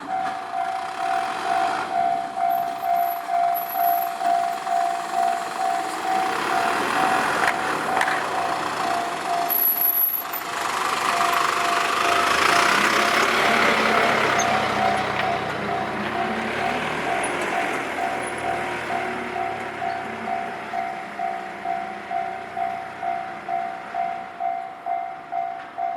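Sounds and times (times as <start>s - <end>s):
level-crossing warning bell: 0.0s - 25.9s
train passing: 0.0s - 25.9s.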